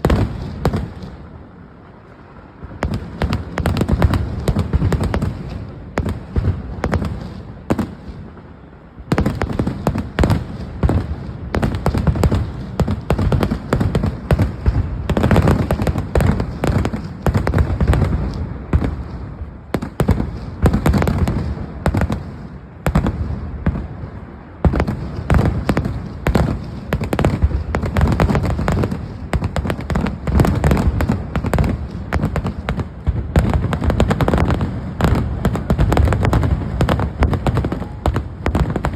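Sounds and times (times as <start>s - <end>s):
fireworks and firecrackers banging: 0.0s - 38.9s.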